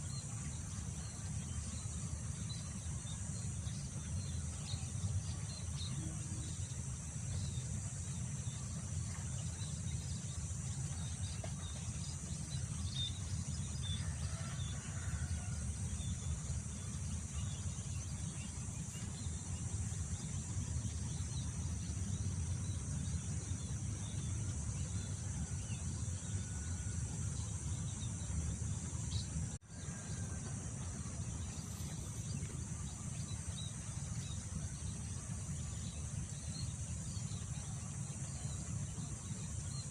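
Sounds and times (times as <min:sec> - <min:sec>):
crickets droning: 0:00.0 - 0:39.9.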